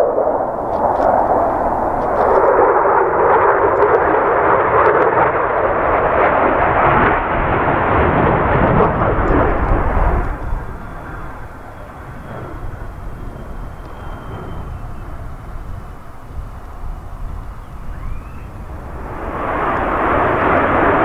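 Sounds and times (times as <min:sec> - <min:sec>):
crackling jet engine: 0:00.0 - 0:21.0
faint engine whine: 0:00.0 - 0:21.0.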